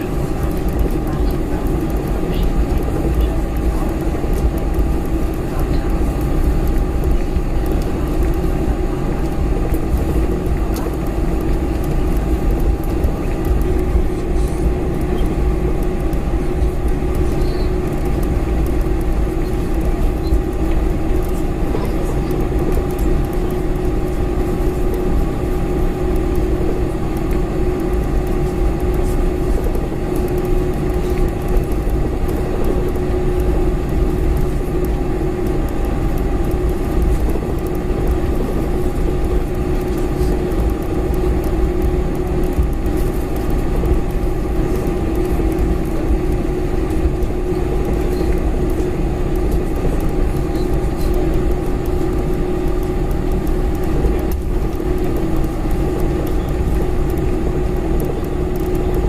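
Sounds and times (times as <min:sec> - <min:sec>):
airplane cabin engine rumble: 0:00.0 - 0:59.0
constant hum: 0:00.0 - 0:59.0.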